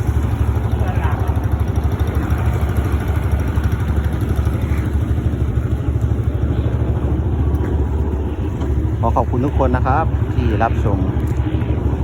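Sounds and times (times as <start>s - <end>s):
engine pulsing rumble: 0.0s - 12.0s.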